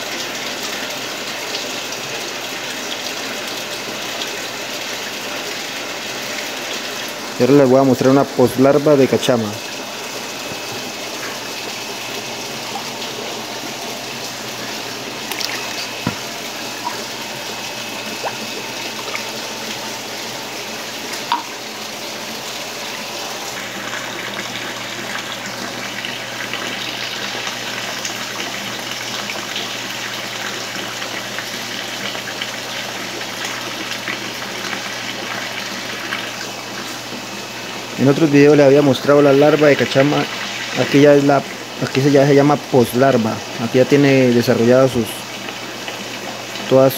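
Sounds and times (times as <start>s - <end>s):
running water splashing: 0.0s - 46.9s.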